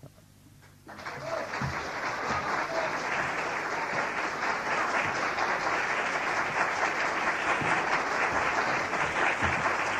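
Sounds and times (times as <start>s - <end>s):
audience applauding: 0.7s - 9.9s.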